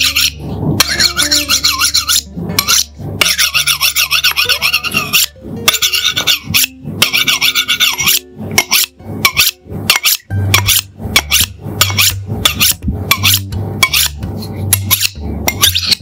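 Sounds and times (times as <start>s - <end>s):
knife blades scraping together: 0.0s - 16.0s.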